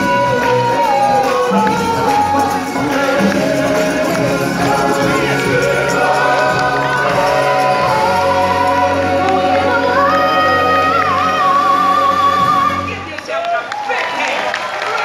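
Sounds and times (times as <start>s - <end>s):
backing vocals: 0.0s - 13.1s
backing music: 0.0s - 13.9s.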